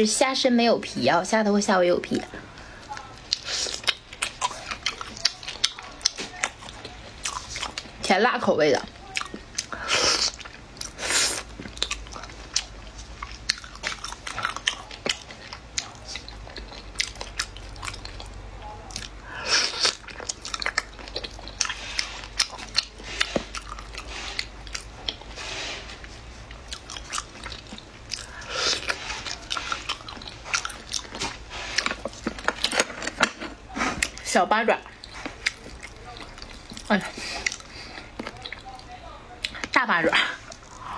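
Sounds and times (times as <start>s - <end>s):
biting and crunching shrimp: 2.2s - 8.0s, 8.8s - 39.8s.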